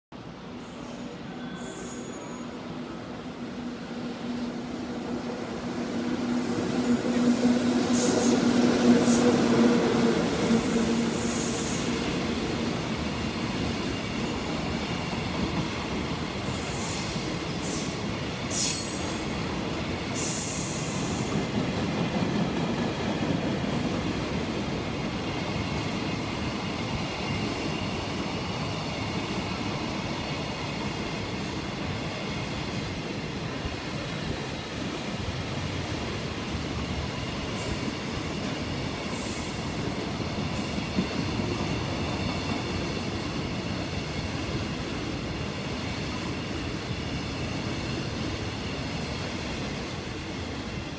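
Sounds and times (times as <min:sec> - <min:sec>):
train wheels rumbling on rails: 0:00.7 - 0:50.9.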